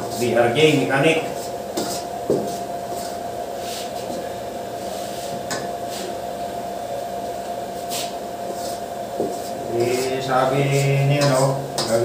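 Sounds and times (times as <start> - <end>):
steady hum with hiss: 0.0 - 12.0.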